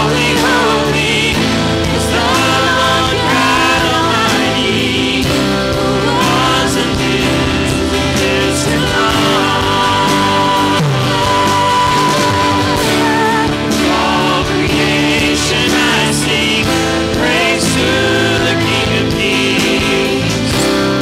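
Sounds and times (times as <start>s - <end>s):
backing instruments: 0.0s - 21.0s
woman singing worship song: 0.0s - 21.0s.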